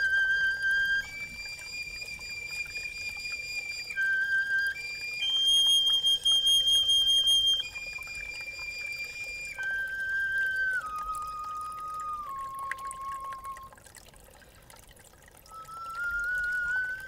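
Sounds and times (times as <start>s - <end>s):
bone flute slow melody: 0.0s - 13.8s, 15.4s - 17.0s
spring water trickling: 0.0s - 17.0s.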